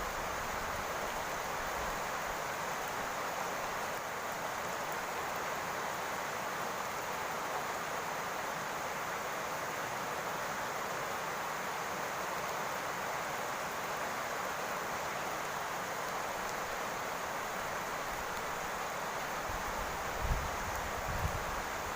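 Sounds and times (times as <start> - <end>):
rain on a roof: 0.0 - 21.9.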